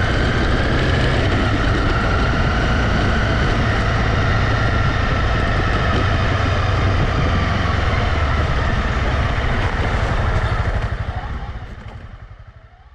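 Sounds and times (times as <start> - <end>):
motorcycle engine running: 0.0 - 12.9
road noise: 0.0 - 12.9.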